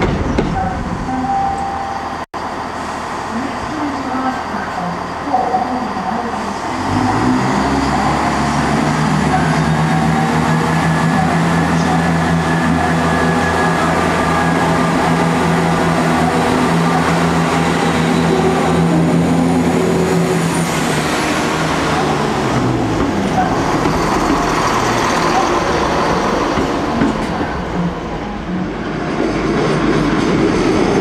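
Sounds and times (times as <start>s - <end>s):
diesel train pulling away: 0.0s - 31.0s.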